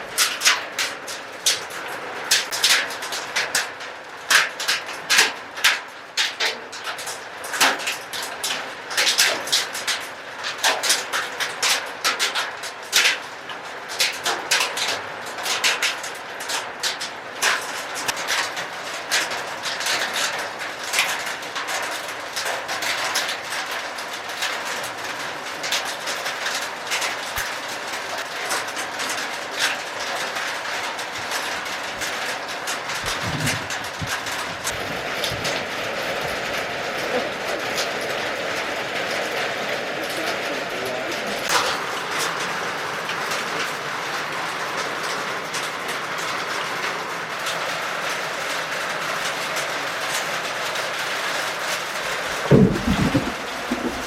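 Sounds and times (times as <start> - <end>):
hailstones clattering: 0.0 - 13.2, 13.9 - 54.0.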